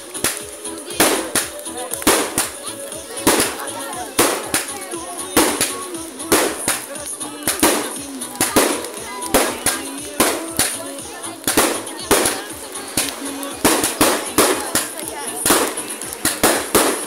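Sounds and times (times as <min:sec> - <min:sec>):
fireworks bangs with crackling: 0:00.0 - 0:17.0.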